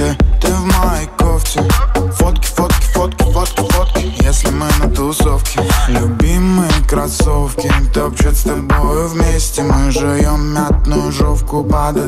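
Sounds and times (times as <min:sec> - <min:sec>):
pop song with hip-hop beat: 0:00.0 - 0:12.0.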